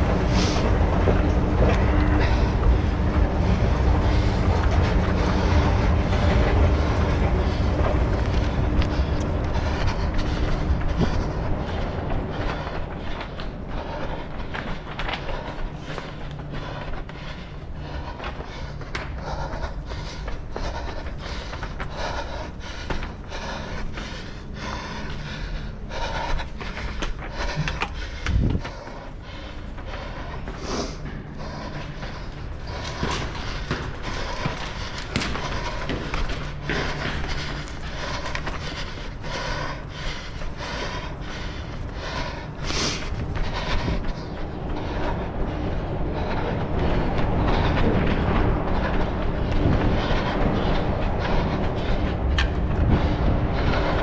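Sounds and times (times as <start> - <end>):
running footfalls: 0.0 - 54.0.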